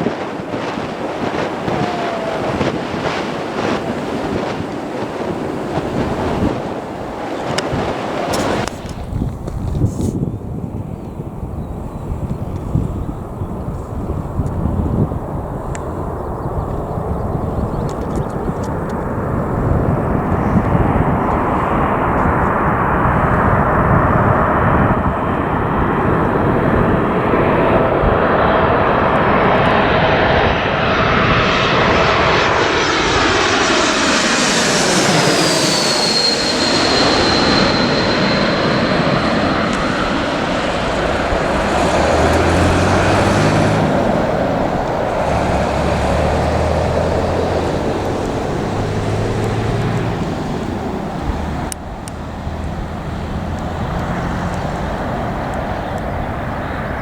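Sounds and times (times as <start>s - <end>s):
airliner passing overhead: 0.0s - 57.0s.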